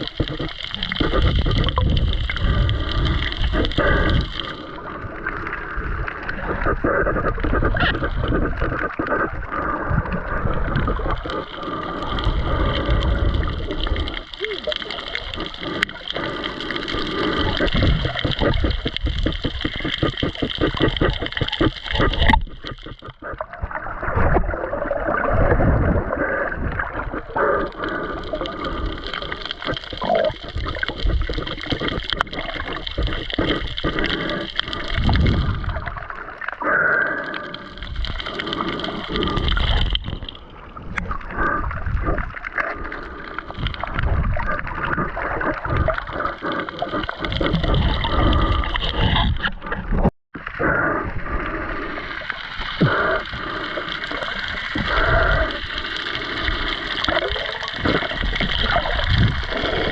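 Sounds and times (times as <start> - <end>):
scattered underwater clicks: 0.0 - 59.9
water gurgling underwater: 0.0 - 59.9.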